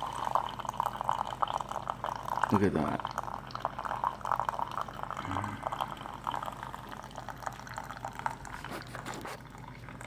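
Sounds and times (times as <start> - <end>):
coffee pouring into mug: 0.0 - 10.0.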